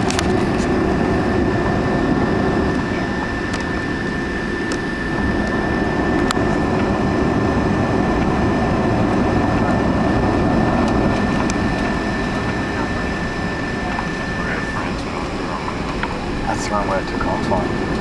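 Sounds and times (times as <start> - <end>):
jet cabin engine rumble: 0.0 - 18.0
thin steady whine: 0.0 - 18.0.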